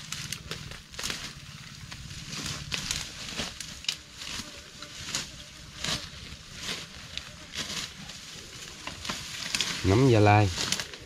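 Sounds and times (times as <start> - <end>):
dry leaves rustling and crunching: 0.0 - 11.0
sharp crackles: 0.0 - 11.0.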